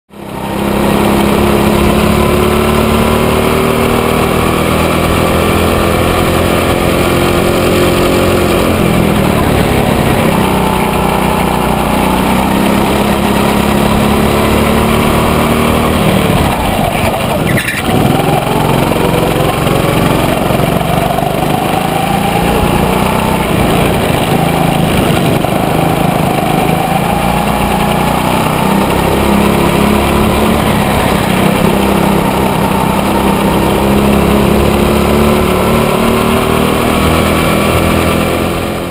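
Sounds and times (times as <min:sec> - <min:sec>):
go-kart engine revving: 0:00.1 - 0:38.9.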